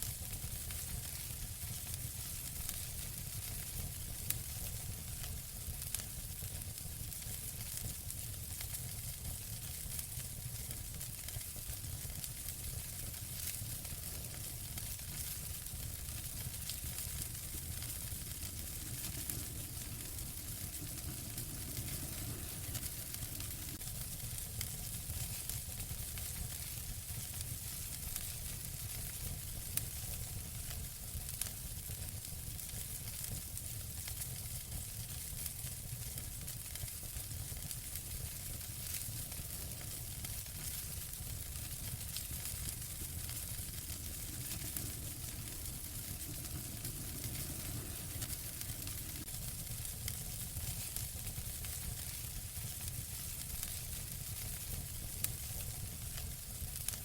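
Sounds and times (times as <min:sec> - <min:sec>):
fire crackling and popping: 0:00.0 - 0:57.0
fire hissing and rumbling: 0:00.0 - 0:57.0.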